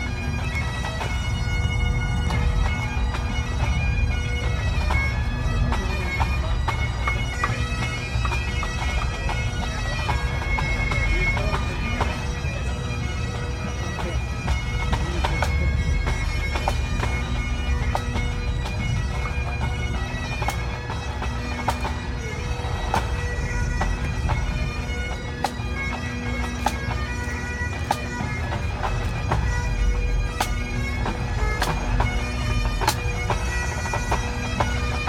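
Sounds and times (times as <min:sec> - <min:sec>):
bagpipes playing with drones: 0:00.0 - 0:35.0.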